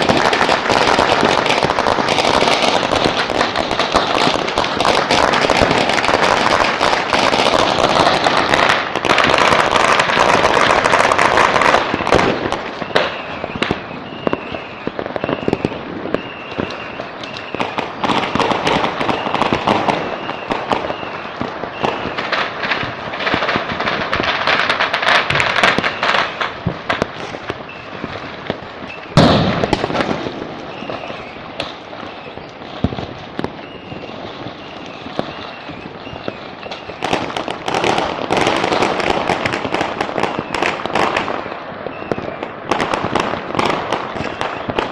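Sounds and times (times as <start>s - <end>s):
loud firework bang: 0.0s - 41.4s
firecrackers crackling: 0.0s - 44.9s.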